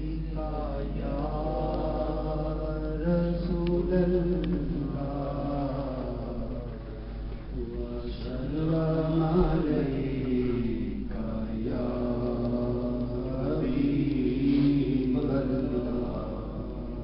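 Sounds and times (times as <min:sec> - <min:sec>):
men chanting: 0:00.0 - 0:06.8, 0:07.6 - 0:17.0.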